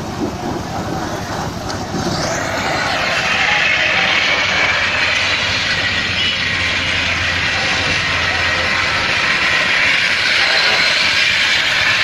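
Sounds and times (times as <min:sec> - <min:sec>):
heavy vehicle engine running: 0:00.0 - 0:12.0
loud rushing noise: 0:00.0 - 0:12.0.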